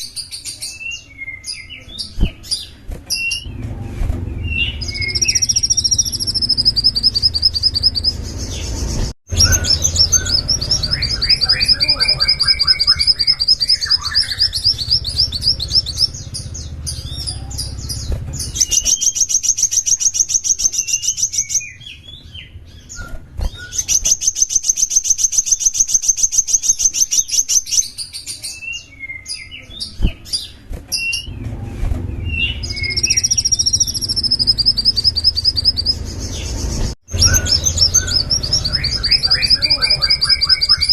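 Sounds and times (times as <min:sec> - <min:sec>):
songbird singing trills: 0:04.3 - 0:31.5, 0:32.1 - 0:40.9.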